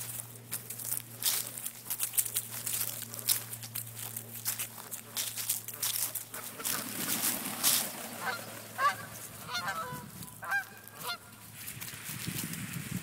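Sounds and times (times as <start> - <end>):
geese honking: 0.0 - 11.7.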